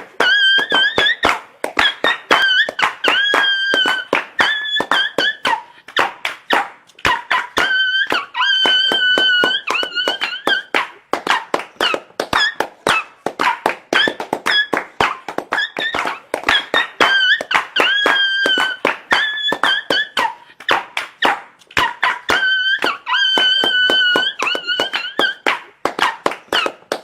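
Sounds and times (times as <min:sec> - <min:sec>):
dog whining cries: 0:00.2 - 0:06.1, 0:07.1 - 0:20.8, 0:21.8 - 0:26.8.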